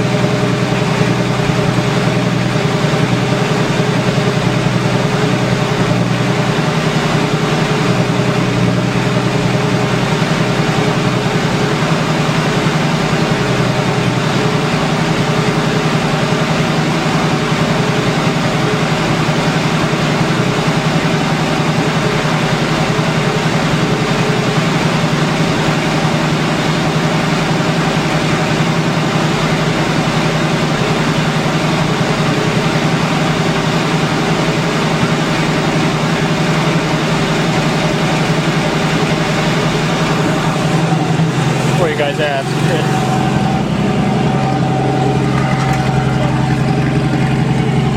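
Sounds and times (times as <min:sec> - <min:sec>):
engine idling through straight exhaust: 0:00.0 - 0:47.9.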